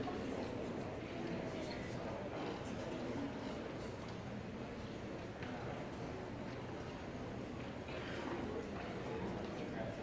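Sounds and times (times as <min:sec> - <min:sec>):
audience chatter: 0:00.0 - 0:10.0.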